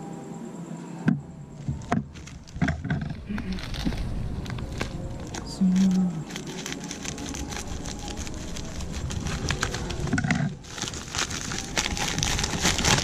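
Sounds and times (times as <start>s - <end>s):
bubble mailer crinkling: 1.7s - 13.0s.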